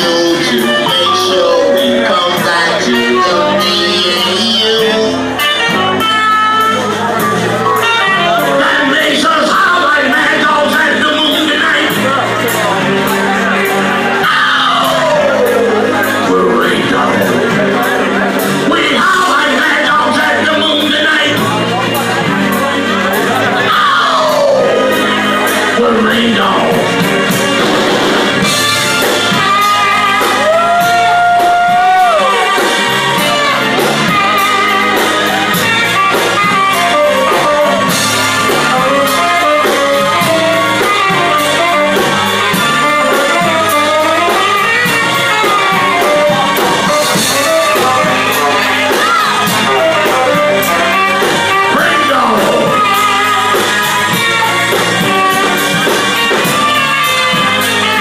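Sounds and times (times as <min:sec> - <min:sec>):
person singing: 0:00.0 - 0:06.1, 0:07.6 - 0:58.0
guitar: 0:00.0 - 0:58.0.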